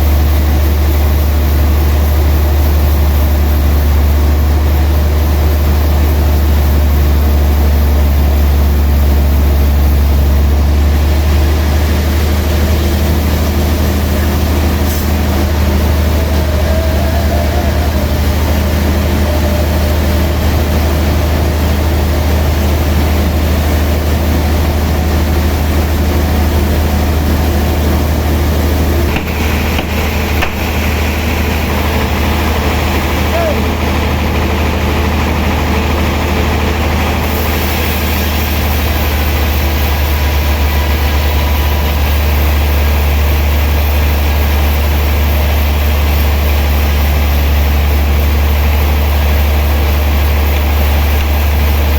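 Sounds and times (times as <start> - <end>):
heavy sawmill machinery humming: 0.0 - 51.9.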